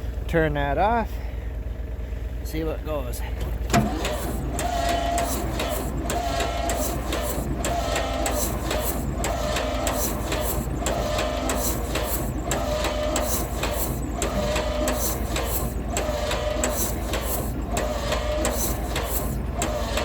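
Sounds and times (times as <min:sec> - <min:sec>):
starter cranking engine: 0:03.2 - 0:20.0.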